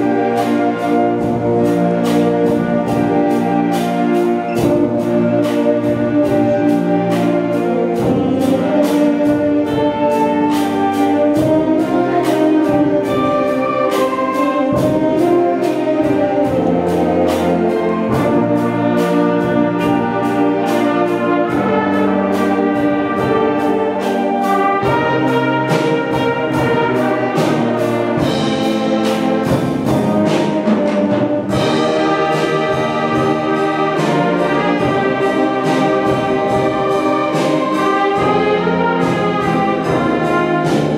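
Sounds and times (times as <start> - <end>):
concert band playing: 0.0 - 40.9
drum kit steady beat: 0.0 - 40.9.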